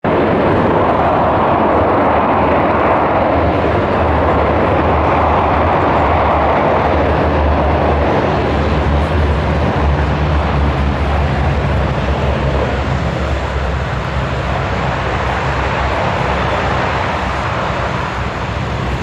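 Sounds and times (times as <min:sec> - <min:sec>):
aircraft engines running loudly: 0:00.0 - 0:19.0.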